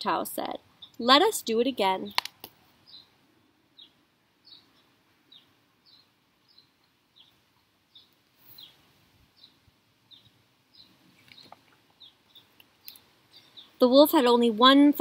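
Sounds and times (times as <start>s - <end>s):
bird chirping: 0.4s - 14.6s.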